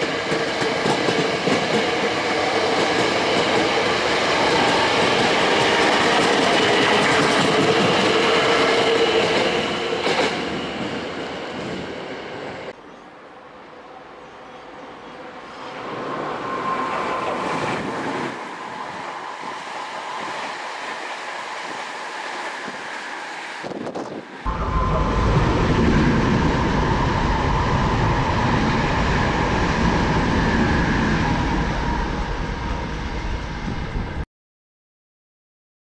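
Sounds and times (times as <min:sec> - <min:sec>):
train wheels on rail: 0:00.0 - 0:13.0, 0:14.2 - 0:34.2
steady train tones: 0:00.0 - 0:34.2
train running past: 0:00.0 - 0:34.2.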